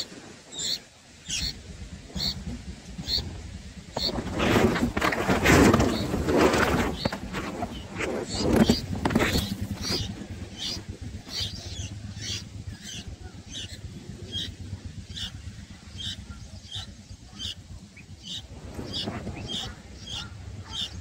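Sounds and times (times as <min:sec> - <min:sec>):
nestlings begging chirps: 0:00.0 - 0:05.1, 0:05.7 - 0:21.0.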